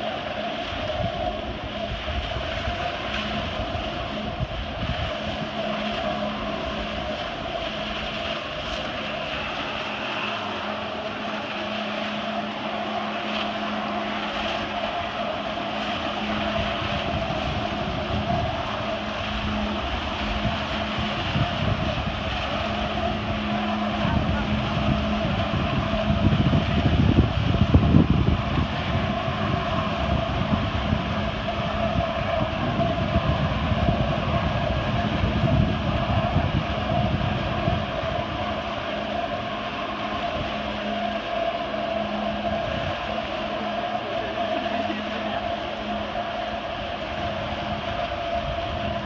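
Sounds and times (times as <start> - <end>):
jet ski engine running: 0.0 - 49.0
water jets spraying: 0.0 - 49.0.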